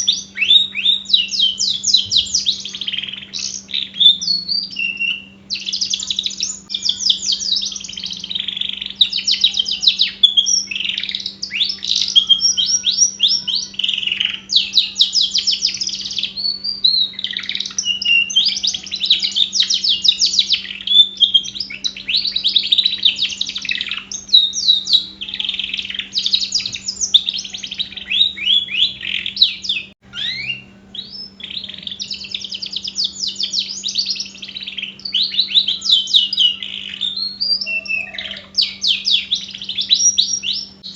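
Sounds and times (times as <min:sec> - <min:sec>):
canary singing trills: 0:00.0 - 0:40.9
faint steady hum: 0:00.0 - 0:40.9.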